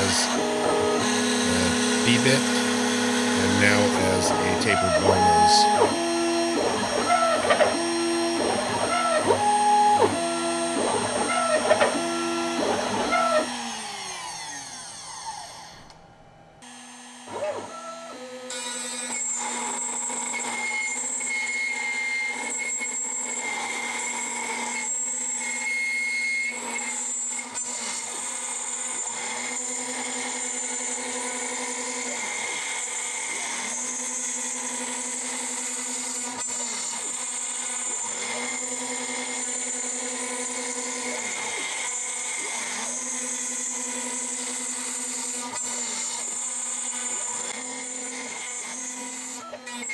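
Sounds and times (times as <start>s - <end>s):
router spindle running: 0.0s - 15.8s, 25.6s - 49.9s
cnc router stepper motor tones: 0.0s - 16.0s, 16.6s - 49.9s.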